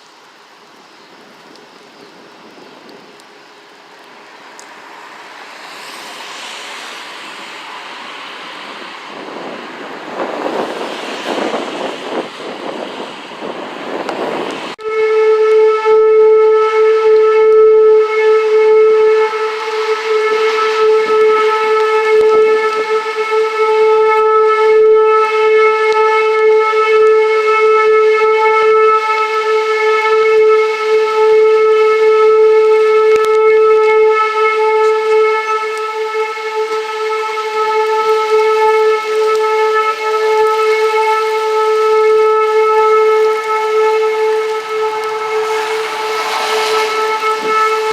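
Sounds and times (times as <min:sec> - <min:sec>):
gusting storm wind: 0:00.0 - 0:47.9
warning siren steady tone: 0:01.6 - 0:47.9.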